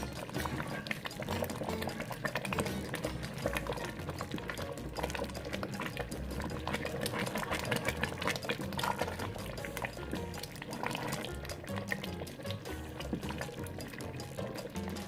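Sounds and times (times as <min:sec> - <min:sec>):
soup bubbling and popping: 0:00.0 - 0:15.0.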